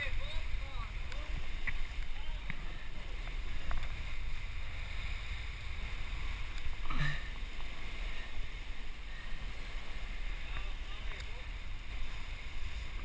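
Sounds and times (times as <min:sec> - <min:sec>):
sea surging: 0:00.0 - 0:13.0.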